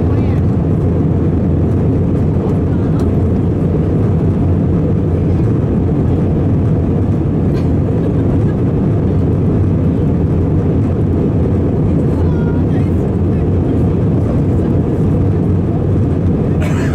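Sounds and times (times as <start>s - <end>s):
airflow over fuselage: 0.0s - 16.9s
jet engines rumbling: 0.0s - 16.9s.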